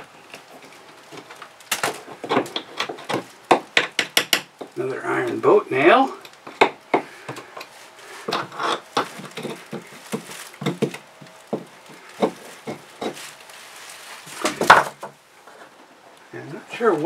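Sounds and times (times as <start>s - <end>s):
rotted wood cracking and crumbling: 0.0s - 7.3s, 8.0s - 15.2s.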